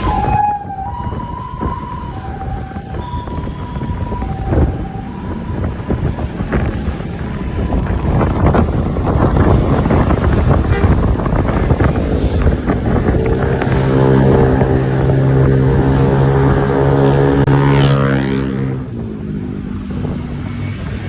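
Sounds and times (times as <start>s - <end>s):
road traffic noise: 0.0s - 21.0s
vehicle approaching: 0.0s - 21.0s
wind buffeting microphone: 0.0s - 21.0s.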